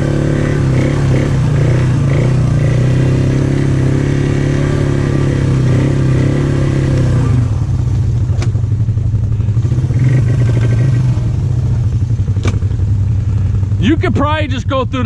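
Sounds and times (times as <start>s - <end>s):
atv engine throbbing: 0.0s - 15.0s.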